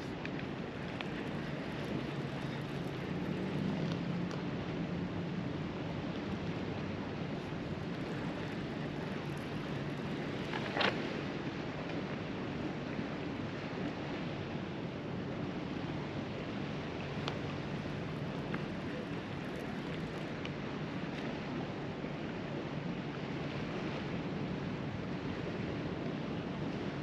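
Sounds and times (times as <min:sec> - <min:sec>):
wind noise on microphone: 0:00.0 - 0:27.0.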